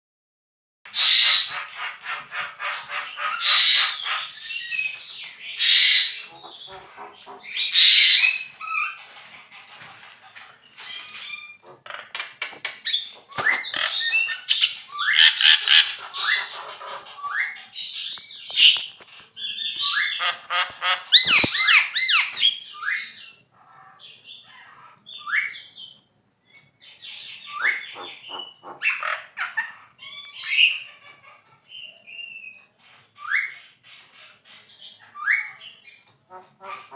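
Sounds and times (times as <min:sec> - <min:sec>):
myna squawks and chatter: 0:00.9 - 0:25.0, 0:27.1 - 0:33.6, 0:36.3 - 0:36.9.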